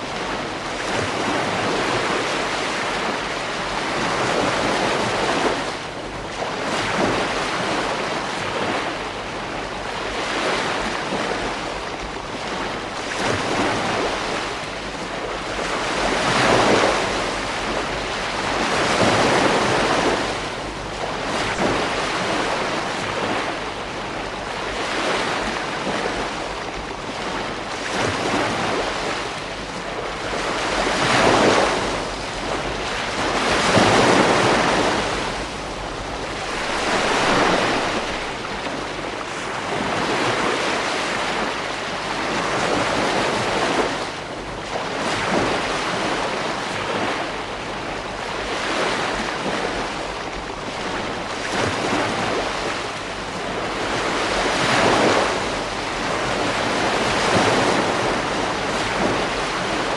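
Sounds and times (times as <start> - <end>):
ocean waves breaking: 0.0 - 59.9
wind noise on microphone: 0.0 - 59.9.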